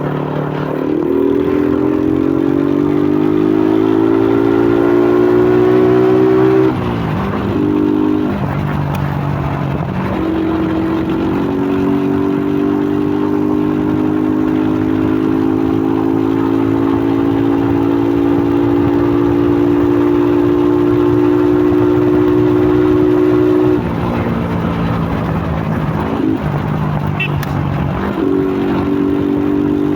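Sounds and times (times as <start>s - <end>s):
motorcycle engine: 0.0s - 29.9s.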